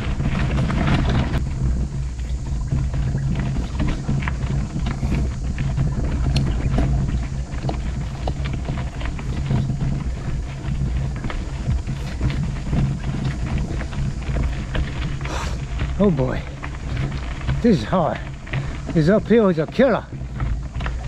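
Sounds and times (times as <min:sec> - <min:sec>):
bike tyres rolling over gravel: 0:00.0 - 0:21.0
small clicks and rattles: 0:00.0 - 0:21.0
wind rumble on microphone: 0:00.0 - 0:21.0.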